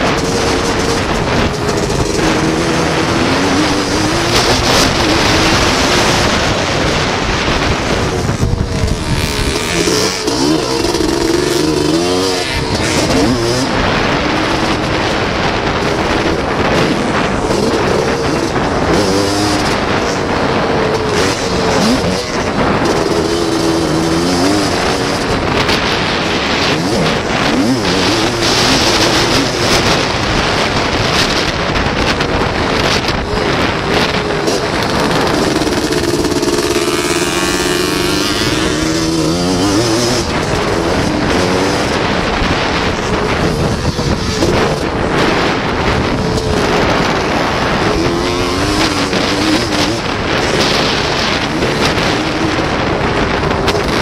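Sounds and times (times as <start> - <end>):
rush of track noise: 0.0 - 54.0
three-wheeler engine revving: 0.0 - 54.0.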